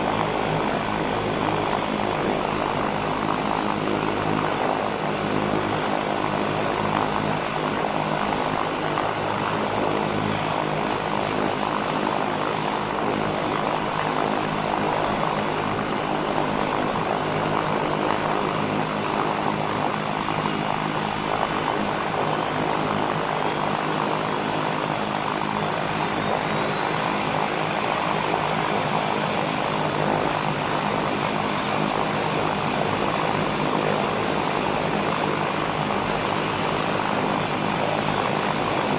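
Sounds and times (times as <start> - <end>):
propeller airplane engine drone: 0.0 - 38.9.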